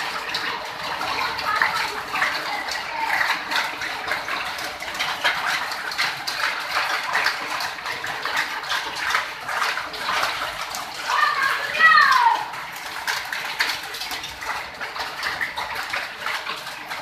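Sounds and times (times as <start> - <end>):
hail and rain on metal roof: 0.0 - 17.0.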